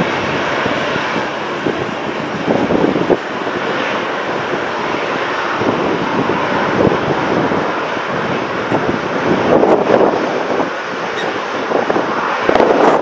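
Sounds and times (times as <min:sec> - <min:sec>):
jet airliners taxiing: 0:00.0 - 0:13.0
wind buffeting microphone: 0:00.0 - 0:13.0.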